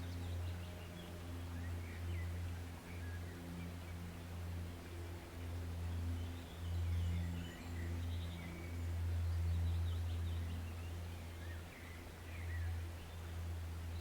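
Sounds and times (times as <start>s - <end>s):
forest stream running: 0.0s - 14.0s
steady low hum: 0.0s - 14.0s.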